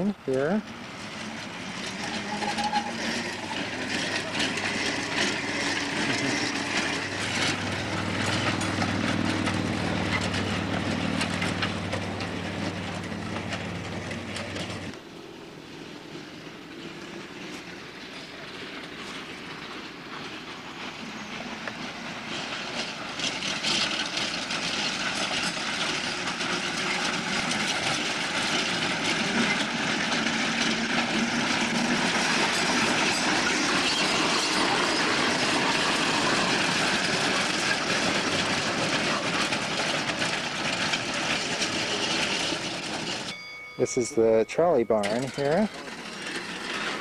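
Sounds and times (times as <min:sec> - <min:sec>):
trolley wheels clattering on rails: 0:00.0 - 0:47.0.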